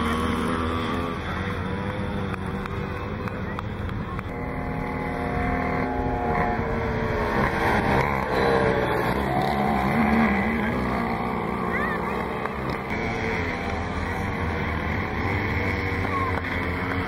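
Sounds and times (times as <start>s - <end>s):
two-stroke mopeds racing: 0.0s - 17.0s.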